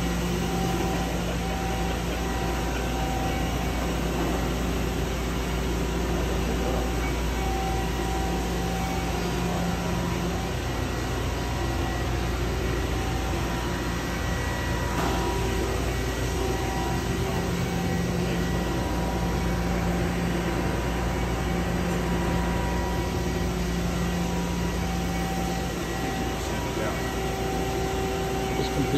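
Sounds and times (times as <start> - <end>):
machining center humming: 0.0 - 28.9.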